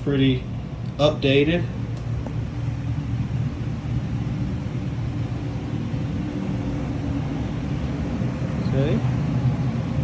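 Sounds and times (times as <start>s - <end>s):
low machine hum and rumble: 0.0s - 10.0s.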